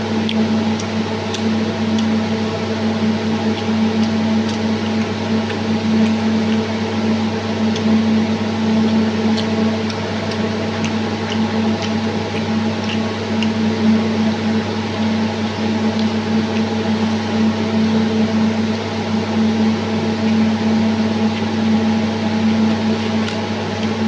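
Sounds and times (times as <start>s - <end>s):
small eating clicks: 0.0s - 24.0s.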